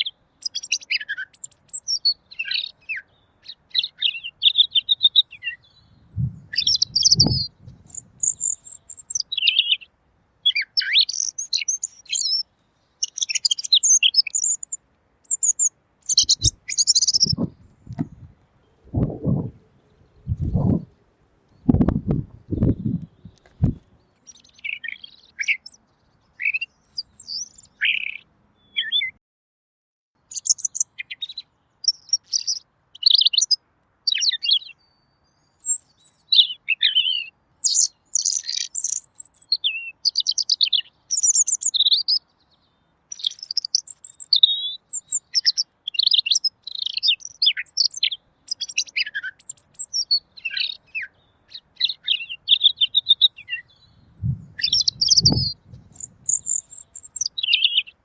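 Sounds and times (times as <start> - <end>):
bird singing whistled phrases: 0.0 - 9.9, 10.5 - 12.4, 13.0 - 18.1, 24.2 - 25.8, 26.4 - 29.2, 30.3 - 34.8, 35.4 - 42.2, 43.1 - 58.0.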